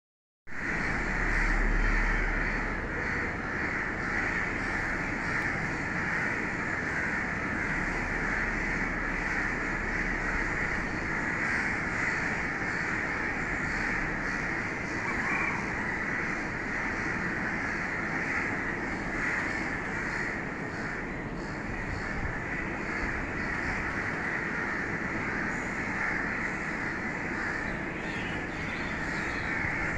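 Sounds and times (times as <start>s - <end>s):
crows cawing: 0.6s - 29.9s.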